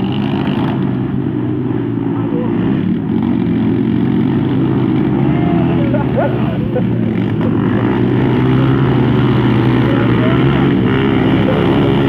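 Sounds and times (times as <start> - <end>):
motocross bike engine running: 0.0 - 12.0.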